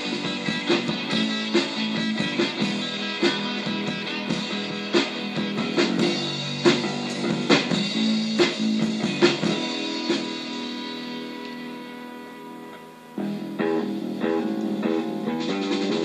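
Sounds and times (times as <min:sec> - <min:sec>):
plucked and strummed guitar: 0:00.0 - 0:16.0.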